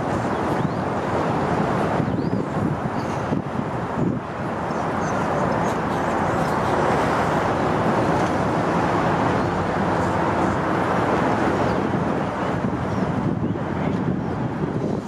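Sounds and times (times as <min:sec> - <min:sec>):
passing vehicles hiss: 0:00.0 - 0:15.0.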